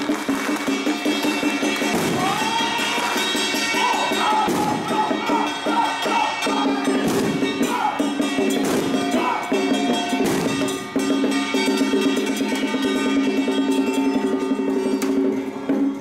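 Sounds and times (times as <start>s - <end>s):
percussion crashes: 0.0s - 16.0s.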